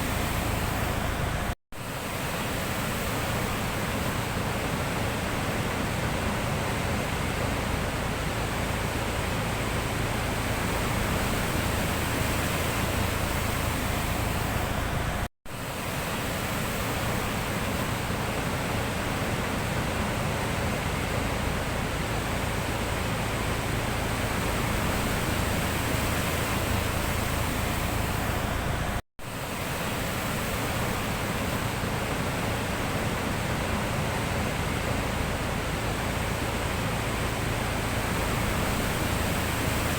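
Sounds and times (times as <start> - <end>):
sea surf rushing: 0.0 - 39.9.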